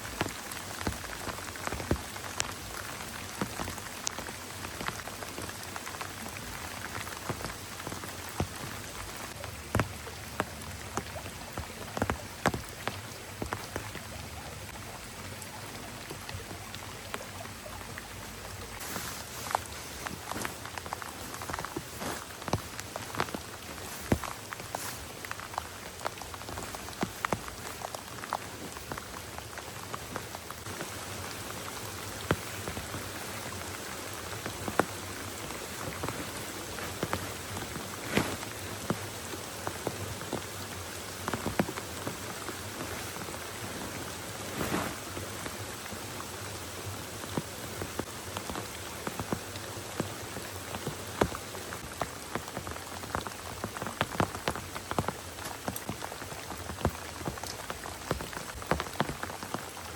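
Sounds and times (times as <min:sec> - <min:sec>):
close raindrop impacts: 0:00.0 - 0:59.9
heavy rain falling: 0:00.0 - 0:59.9.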